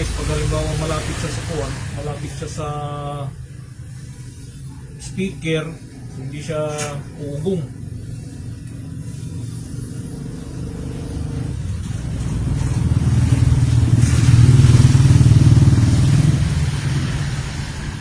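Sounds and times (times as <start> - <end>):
vehicle engine passing by: 0.0 - 6.2, 6.9 - 18.0.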